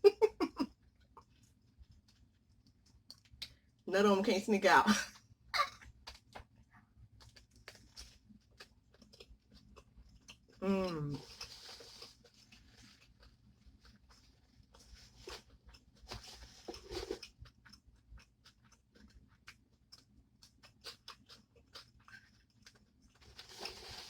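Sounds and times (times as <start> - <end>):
faint chewing: 0.3 - 3.8, 5.1 - 24.0.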